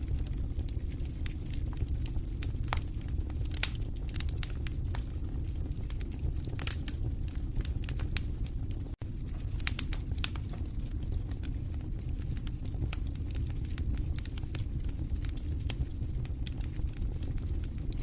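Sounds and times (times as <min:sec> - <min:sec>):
fire pops and snaps: 0:00.0 - 0:18.0
low rumble of flames: 0:00.0 - 0:18.0.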